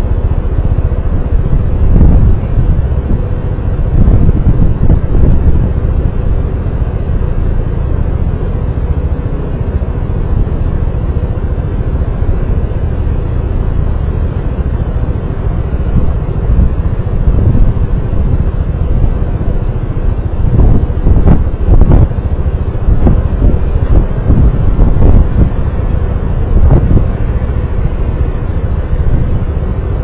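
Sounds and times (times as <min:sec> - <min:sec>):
faint engine hum: 0:00.0 - 0:30.0
road noise: 0:00.0 - 0:30.0
wind buffeting microphone: 0:00.0 - 0:30.0.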